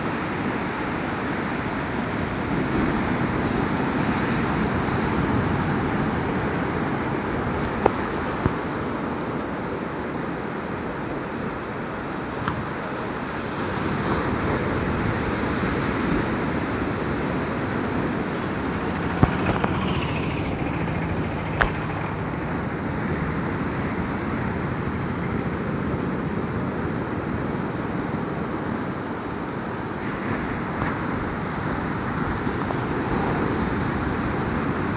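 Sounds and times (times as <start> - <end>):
surf washing onto a beach: 0.0 - 20.1, 21.6 - 34.9.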